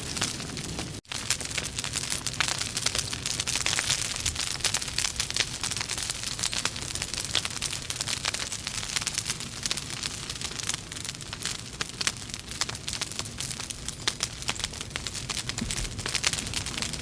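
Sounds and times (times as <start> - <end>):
logs crackling in a fireplace: 0.0 - 17.0.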